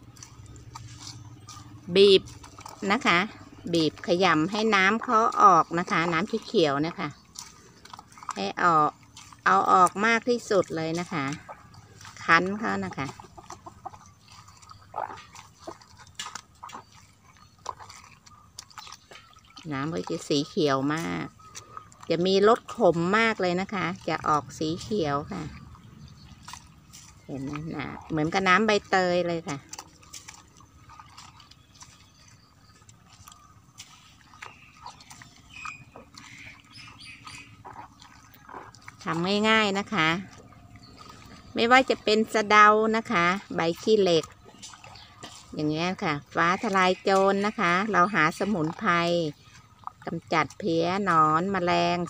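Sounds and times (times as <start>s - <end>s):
wet squelches and splashes: 0.0s - 52.0s.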